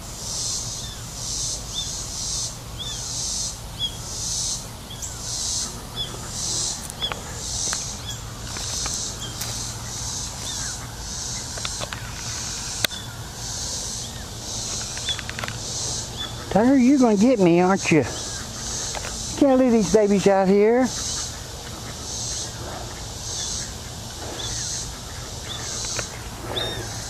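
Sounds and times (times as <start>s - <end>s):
insects calling in pulses: 0.0s - 27.0s.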